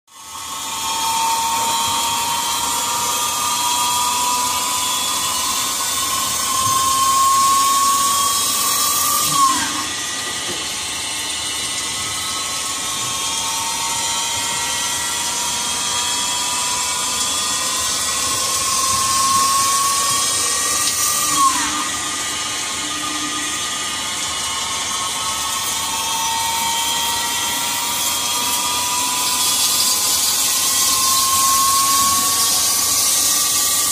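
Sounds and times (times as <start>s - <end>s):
lathe running with high whine: 0.1s - 33.9s.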